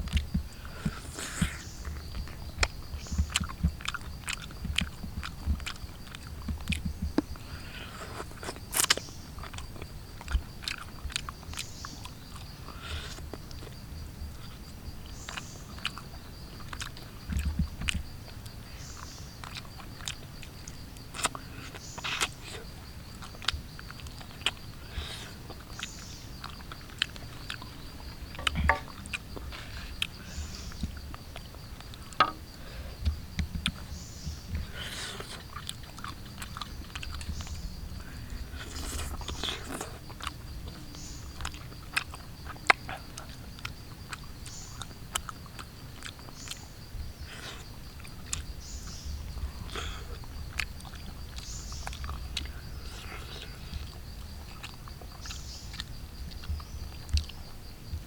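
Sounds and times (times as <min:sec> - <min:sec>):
person chewing with wet smacks: 0:00.0 - 0:57.6.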